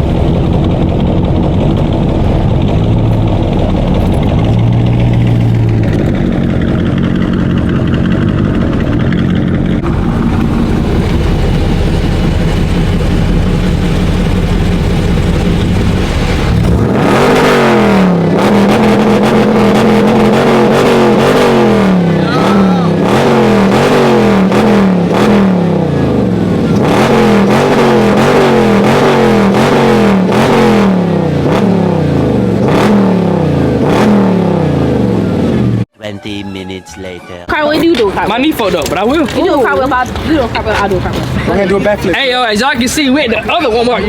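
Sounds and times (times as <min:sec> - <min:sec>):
engine revving: 0:00.0 - 0:36.0
car engine and road noise: 0:00.0 - 0:36.8, 0:37.4 - 0:44.0.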